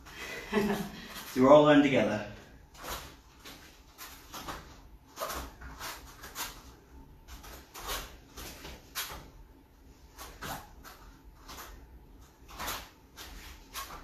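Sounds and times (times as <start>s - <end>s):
bare feet thudding on foam mats: 2.6s - 14.0s.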